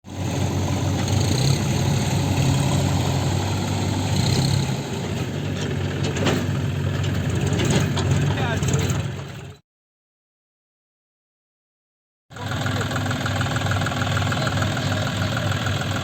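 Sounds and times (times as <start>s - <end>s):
heavy diesel engine running: 0.0s - 9.6s, 12.3s - 16.0s.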